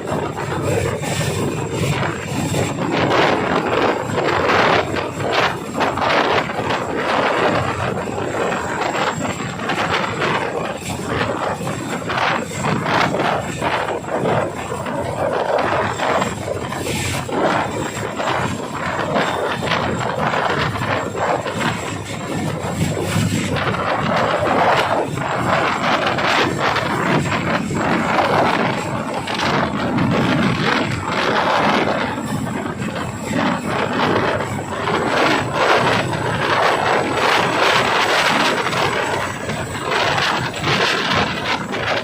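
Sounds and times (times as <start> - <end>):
helicopter rotors and engines: 0.0 - 42.0.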